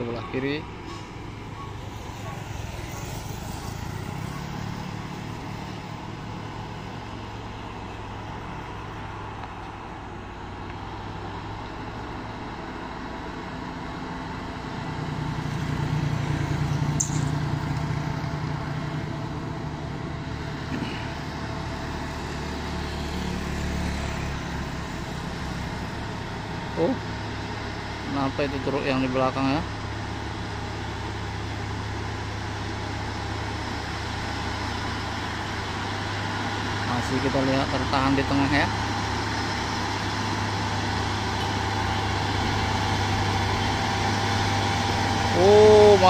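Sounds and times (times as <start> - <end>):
diesel truck engines droning: 0.0 - 46.0.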